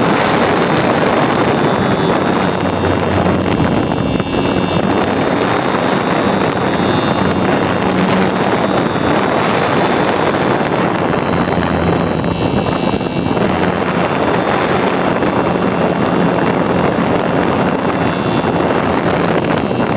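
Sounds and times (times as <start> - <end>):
propeller motor drone: 0.0 - 19.9
wind rushing over microphone: 0.0 - 19.9.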